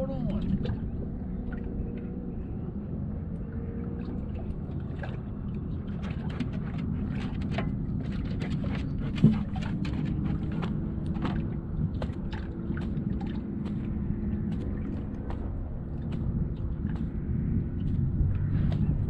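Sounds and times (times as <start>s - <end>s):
waves lapping against boat hull: 0.0s - 19.0s.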